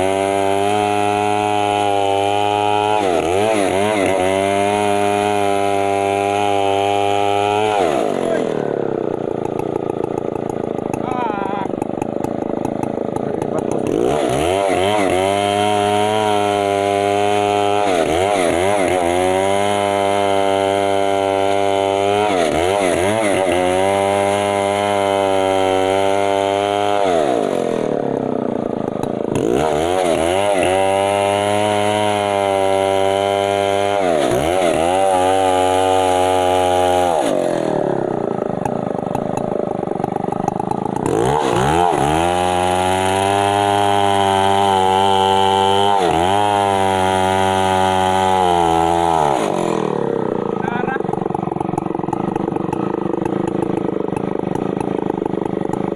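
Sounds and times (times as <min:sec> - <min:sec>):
chainsaw running at high revs: 0:00.0 - 0:55.9.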